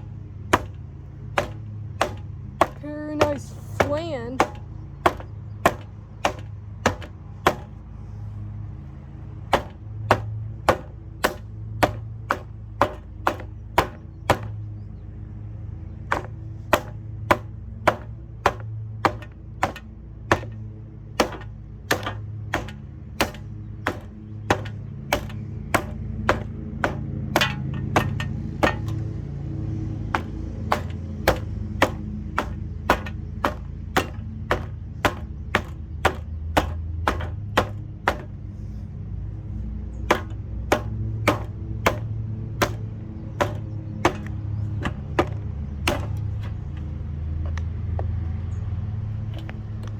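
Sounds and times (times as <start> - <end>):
box fan motor hum: 0.0 - 49.9.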